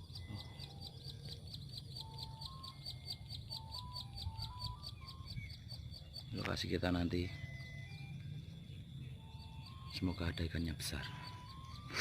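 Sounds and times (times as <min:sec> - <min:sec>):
bird high chirp: 0:00.0 - 0:12.0.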